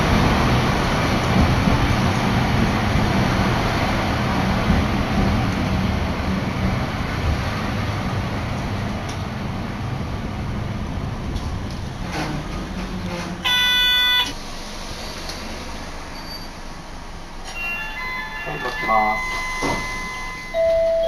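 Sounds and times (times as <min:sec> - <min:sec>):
streetcar rumbling on track: 0:00.0 - 0:21.0.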